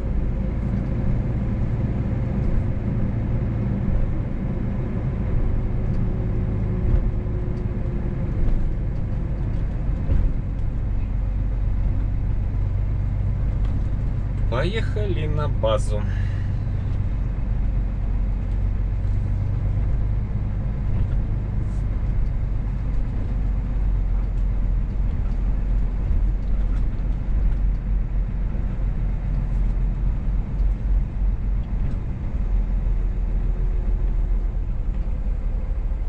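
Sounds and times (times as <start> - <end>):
truck engine and road rumble: 0.0 - 36.0.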